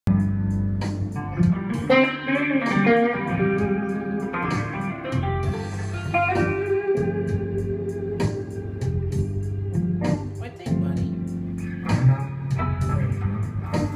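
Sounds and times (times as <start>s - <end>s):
low bass: 0.0s - 13.9s
electric guitar blues line: 0.1s - 13.9s.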